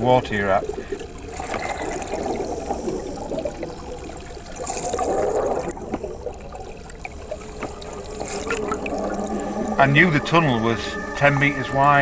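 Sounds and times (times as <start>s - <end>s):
exhaled bubbles gushing: 0.0s - 12.0s
diver breathing underwater: 0.6s - 12.0s.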